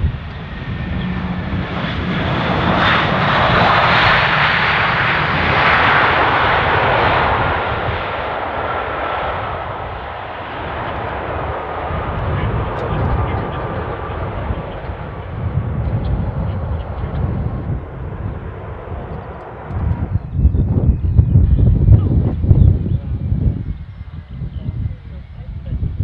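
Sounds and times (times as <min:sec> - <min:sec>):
high engine whine: 0:00.0 - 0:26.0
jet aircraft passing: 0:00.0 - 0:26.0.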